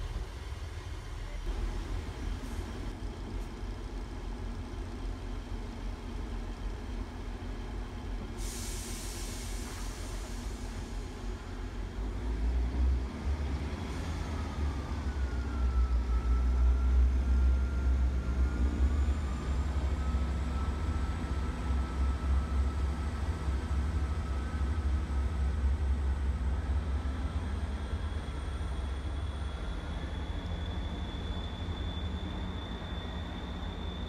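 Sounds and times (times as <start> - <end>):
train engine rumble: 0.0 - 34.0.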